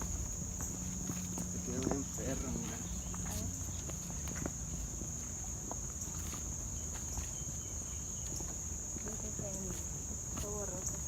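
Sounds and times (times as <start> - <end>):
insect chorus: 0.0 - 11.0.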